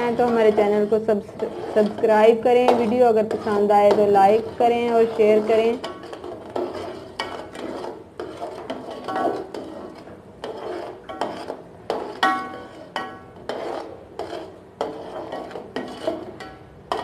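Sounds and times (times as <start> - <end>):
metal spoon scraping pot: 0.0 - 17.0.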